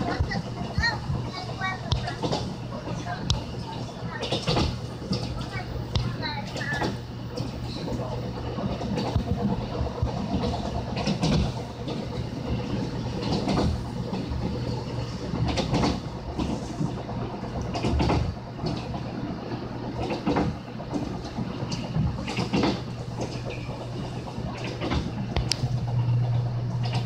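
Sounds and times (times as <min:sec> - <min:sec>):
train wheels knocking: 0:00.0 - 0:25.7
train low rumble: 0:00.0 - 0:27.0.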